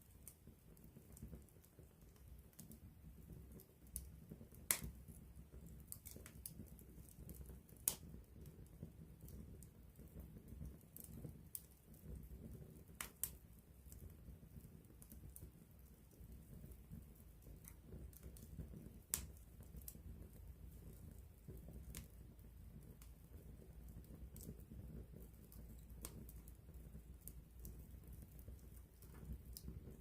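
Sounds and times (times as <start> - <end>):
campfire crackling: 0.0 - 30.0
low rumble of flame: 0.0 - 30.0.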